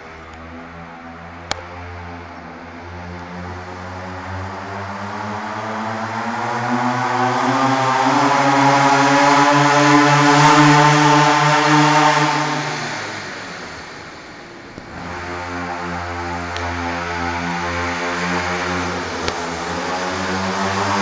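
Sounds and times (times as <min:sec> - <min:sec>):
minibike engine running: 0:00.0 - 0:21.0.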